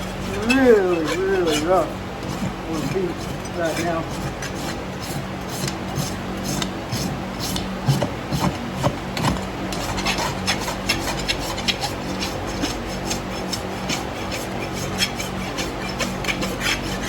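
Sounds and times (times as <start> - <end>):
rasp scraping hoof: 0.0 - 17.0.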